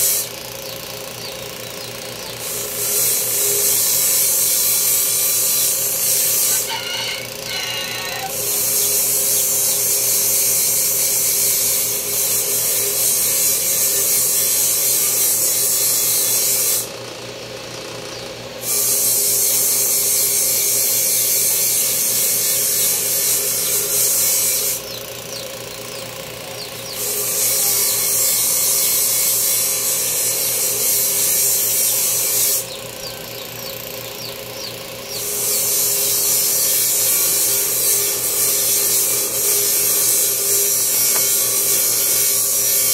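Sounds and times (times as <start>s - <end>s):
high hissing grind: 0.0s - 0.5s, 2.3s - 16.9s, 18.6s - 42.9s
power tool motor humming: 0.0s - 42.9s.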